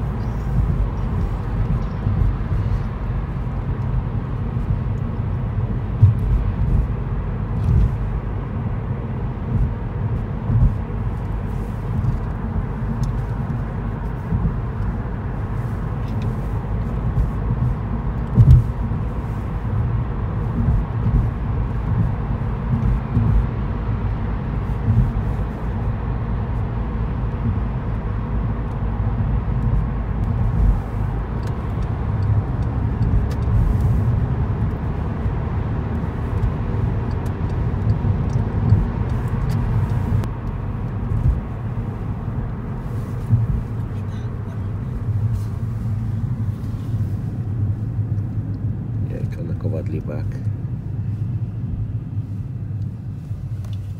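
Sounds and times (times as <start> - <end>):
car road noise rumble: 0.0 - 53.9.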